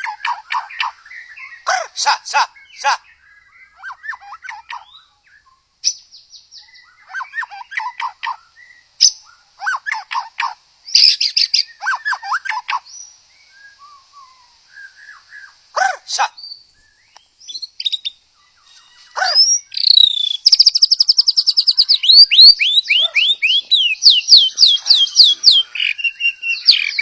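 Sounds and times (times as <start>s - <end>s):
bird singing whistled song: 2.6s - 10.0s, 10.9s - 15.6s, 16.4s - 27.0s.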